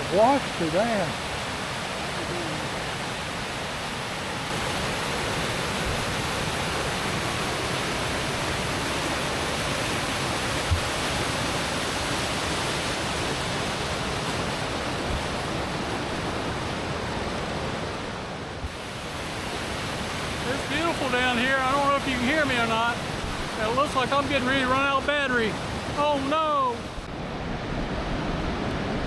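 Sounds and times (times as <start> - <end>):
river water over rocks: 0.0 - 29.0.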